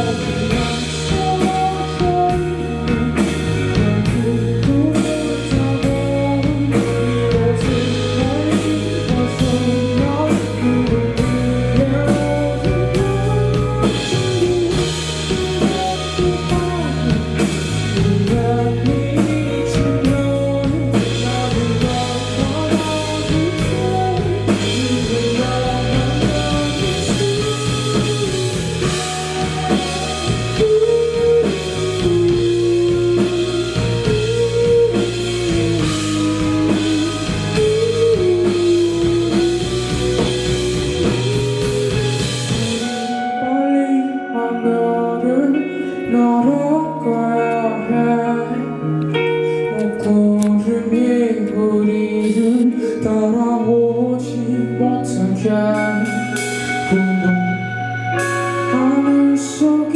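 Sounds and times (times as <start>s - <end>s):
electric guitar melody: 0.0s - 59.9s
rock band playing: 0.0s - 59.9s.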